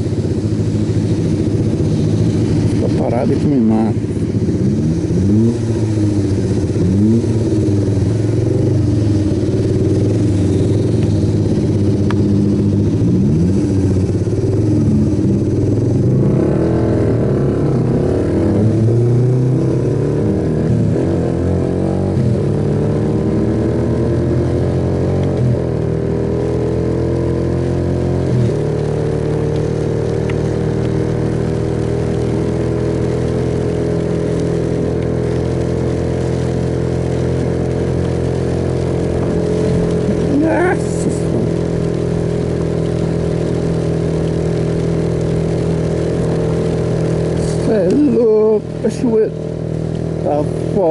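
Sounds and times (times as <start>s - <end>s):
motorcycle engine revving: 0.0s - 50.9s
road and wind noise: 0.0s - 50.9s.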